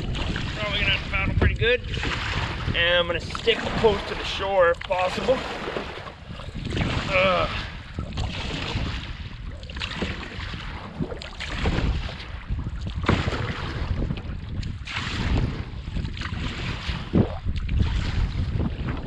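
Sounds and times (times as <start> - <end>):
water splashing around canoe: 0.0 - 19.0
wind buffeting microphone: 0.0 - 19.0.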